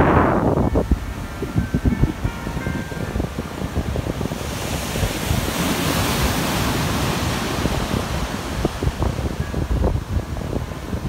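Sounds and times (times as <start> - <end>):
ocean waves breaking: 0.0 - 11.0
wind buffeting microphone: 0.0 - 11.0.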